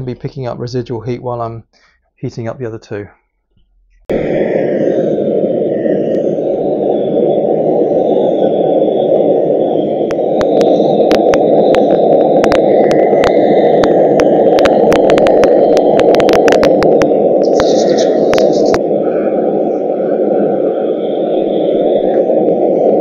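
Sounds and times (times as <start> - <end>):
crackling electrical interference: 4.0 - 23.0
gas blowtorch running: 4.1 - 23.0.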